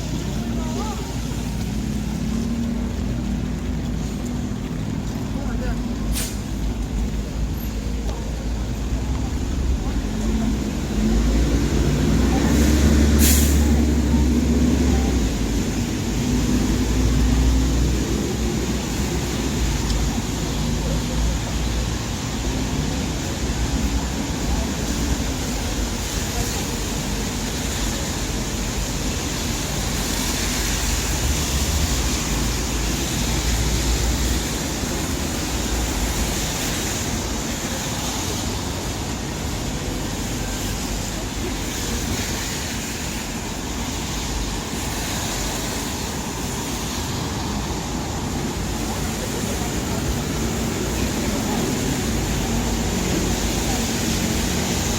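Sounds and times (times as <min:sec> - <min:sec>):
people talking: 0:00.0 - 0:30.5, 0:31.5 - 0:54.9
rumble of passing vehicles: 0:00.0 - 0:54.9
tyres hissing on wet road: 0:00.0 - 0:54.9.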